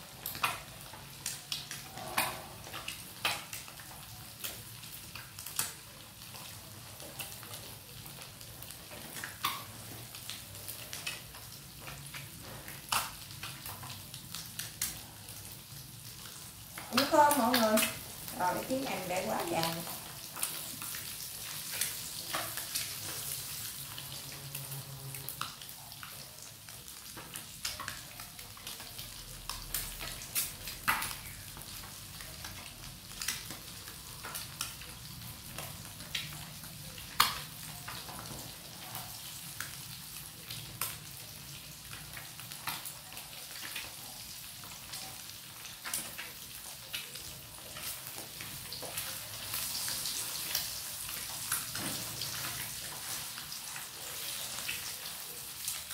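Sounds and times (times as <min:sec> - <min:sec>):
eggs frying in hot oil: 0:00.0 - 0:55.9.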